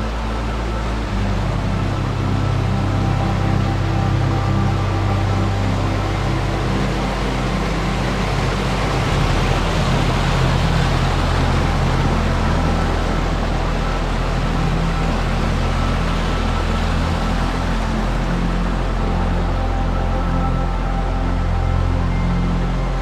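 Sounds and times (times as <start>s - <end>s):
ambient drone music: 0.0s - 23.0s.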